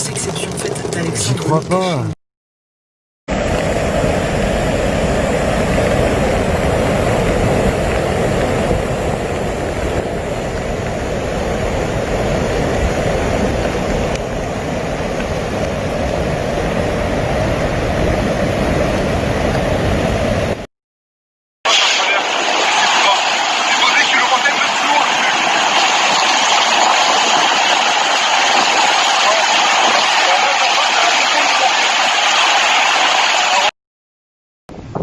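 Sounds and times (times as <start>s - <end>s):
floodwater torrent rushing: 3.3s - 20.6s, 21.7s - 33.7s.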